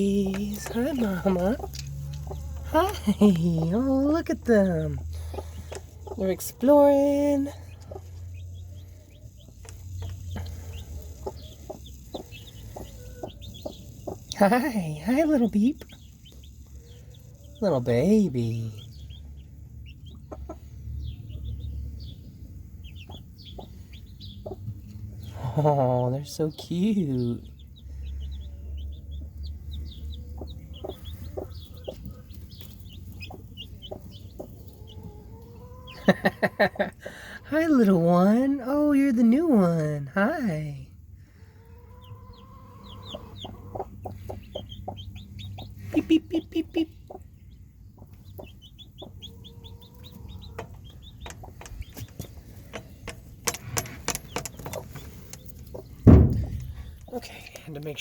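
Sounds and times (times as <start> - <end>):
chicks peeping: 0.0 - 58.0
hen clucking: 0.0 - 58.0.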